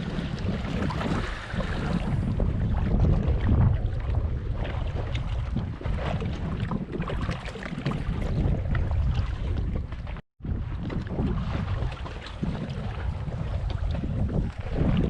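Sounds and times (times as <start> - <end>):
sea: 0.0 - 15.0
wind buffeting microphone: 0.0 - 15.0.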